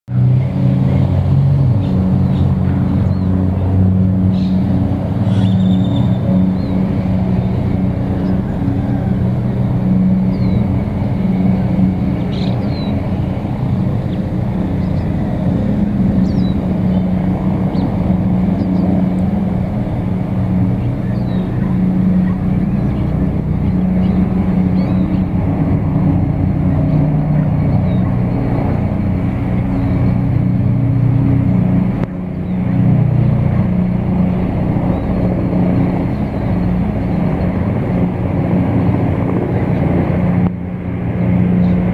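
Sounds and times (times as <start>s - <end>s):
helicopters flying: 0.1s - 41.9s.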